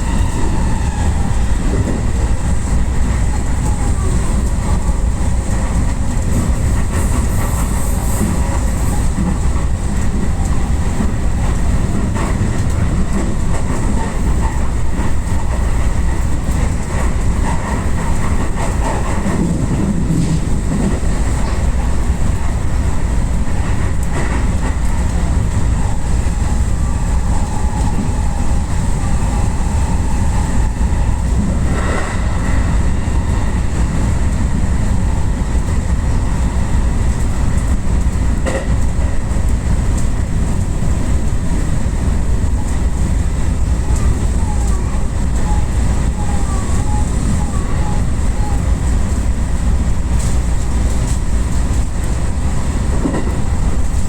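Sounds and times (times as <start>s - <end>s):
wheels clickety-clack: 0.0s - 32.8s, 33.5s - 54.0s
train wheels rumbling on rails: 0.0s - 54.0s.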